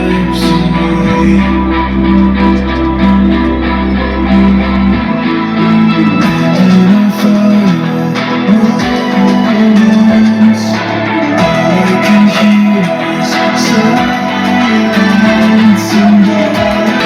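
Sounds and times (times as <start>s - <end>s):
music through a soundbar: 0.0s - 17.0s.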